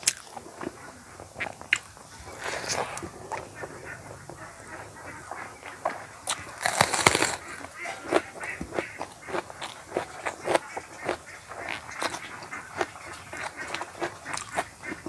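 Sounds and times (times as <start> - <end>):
person chewing with mouth open: 0.0 - 15.0.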